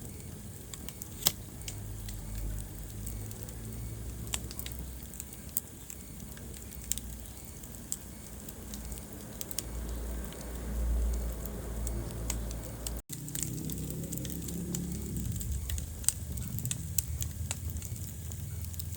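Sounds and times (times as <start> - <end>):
fire crackling in fireplace: 0.0 - 18.9.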